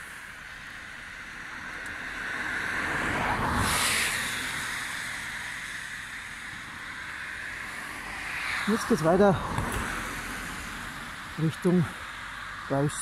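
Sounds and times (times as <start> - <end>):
outdoor rush of noise: 0.0 - 13.0.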